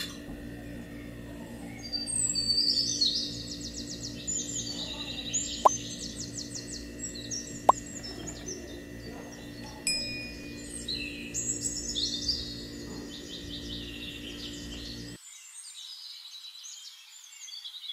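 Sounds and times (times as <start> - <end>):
chirping bird-like trills: 0.0 - 15.2.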